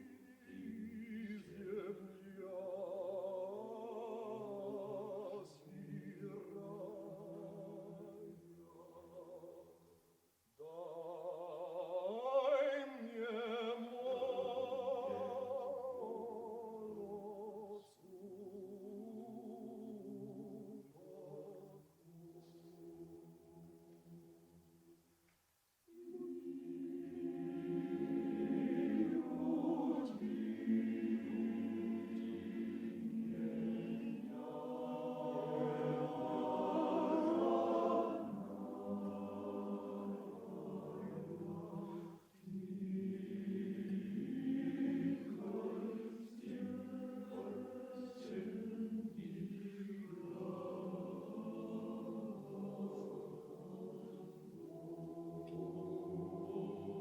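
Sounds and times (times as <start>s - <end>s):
men's chorus singing a cappella: 0.0s - 9.7s, 10.6s - 23.8s, 26.0s - 57.0s.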